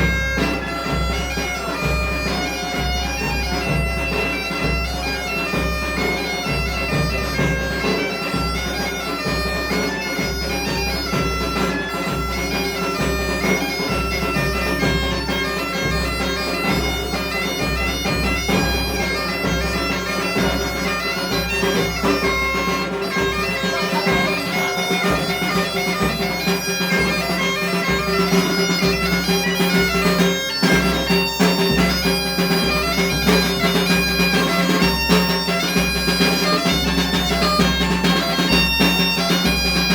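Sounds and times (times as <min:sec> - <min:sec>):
bagpipe tune over drone: 0:00.0 - 0:39.9
drum beating: 0:00.0 - 0:39.9.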